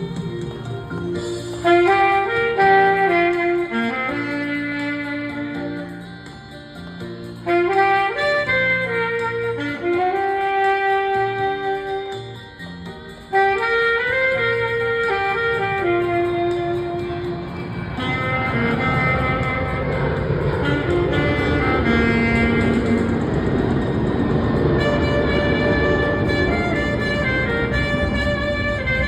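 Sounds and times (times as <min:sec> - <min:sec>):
musical accompaniment: 0:00.0 - 0:29.0
saxophone playing slow melody: 0:00.0 - 0:29.0.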